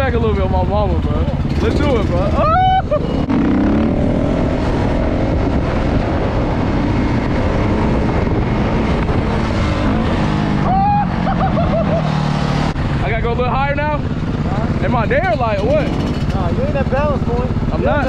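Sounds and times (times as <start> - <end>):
dirt bike engine running: 0.0 - 18.0
heavy rushing noise: 1.4 - 17.8.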